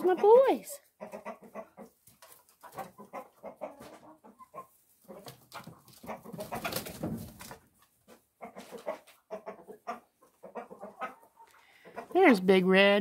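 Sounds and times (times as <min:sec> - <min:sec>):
chickens clucking: 0:00.0 - 0:12.6.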